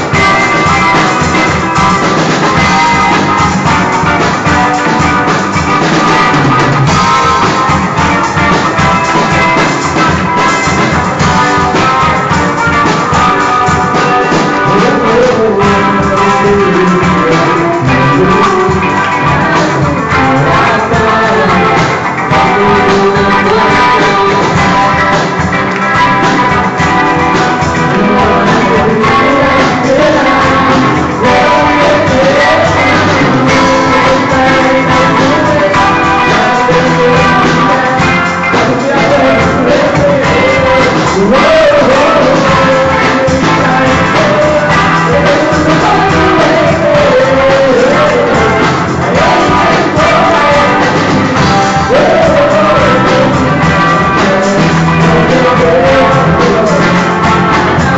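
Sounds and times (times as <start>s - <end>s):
bass: 0.0s - 57.9s
drums: 0.0s - 57.9s
guitars: 0.0s - 57.9s
person singing: 0.0s - 57.9s.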